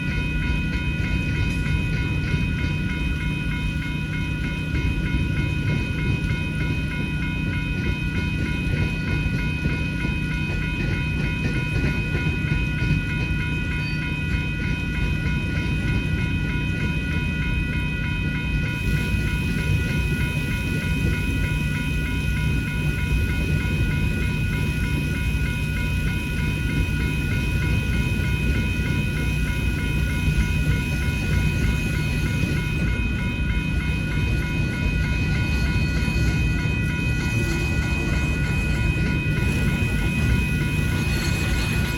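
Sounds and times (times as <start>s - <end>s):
crossing signal bells ringing: 0.0s - 41.9s
freight train rumbling past: 0.0s - 41.9s.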